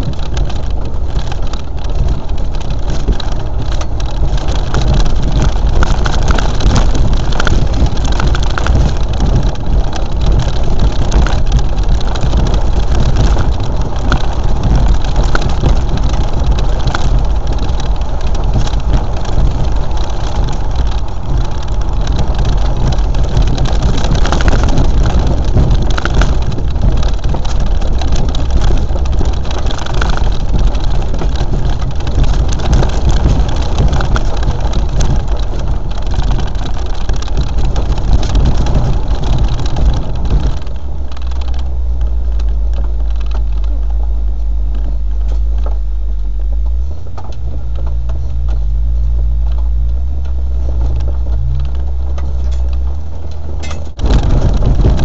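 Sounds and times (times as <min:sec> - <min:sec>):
engine running: 0:00.0 - 0:55.0
heavy noise and clatter: 0:00.0 - 0:55.0.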